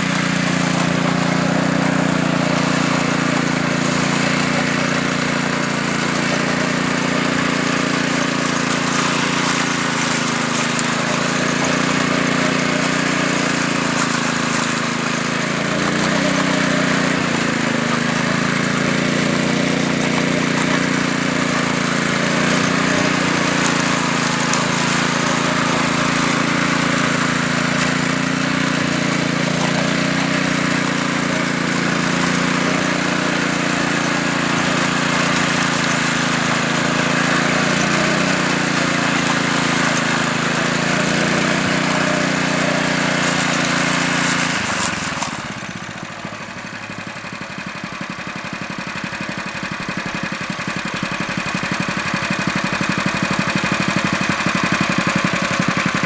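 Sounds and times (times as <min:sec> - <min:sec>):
power trowel engine running: 0:00.0 - 0:56.0.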